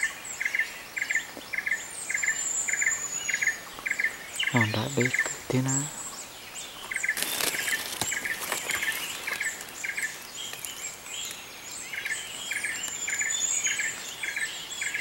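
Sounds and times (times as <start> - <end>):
bird chirping: 0.0 - 15.0
high bird calls and whistles: 0.0 - 15.0.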